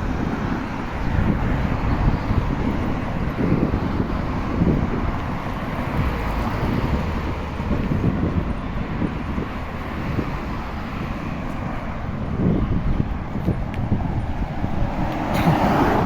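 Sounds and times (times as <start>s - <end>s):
road and traffic noise: 0.0s - 16.0s
wind buffeting microphone: 0.0s - 16.0s.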